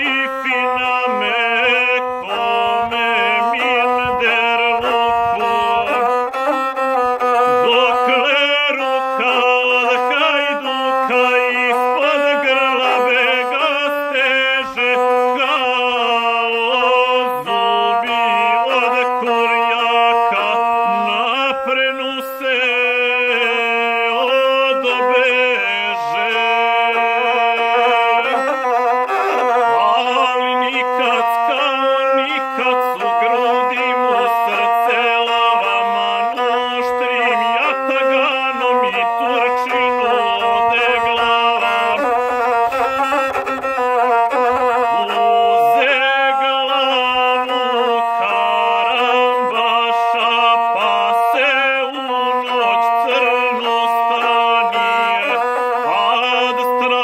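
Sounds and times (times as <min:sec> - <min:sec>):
bowed single-string fiddle: 0:00.0 - 0:57.0
man singing: 0:00.0 - 0:57.0.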